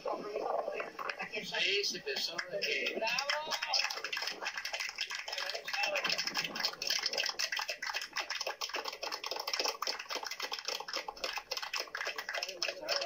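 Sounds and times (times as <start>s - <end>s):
people applauding: 1.0s - 13.0s.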